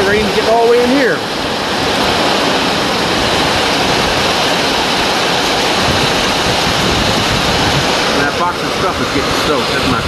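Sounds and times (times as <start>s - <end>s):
heavy rain on a roof: 0.0s - 10.0s
rain splashing on wet concrete: 0.0s - 10.0s.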